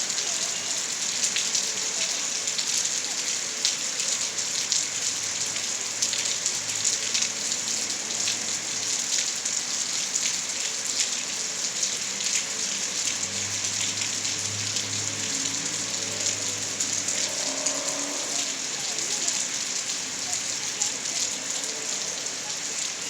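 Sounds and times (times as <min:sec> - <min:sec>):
raindrops ticking on surfaces: 0:00.0 - 0:23.0
steady rainfall: 0:00.0 - 0:23.0.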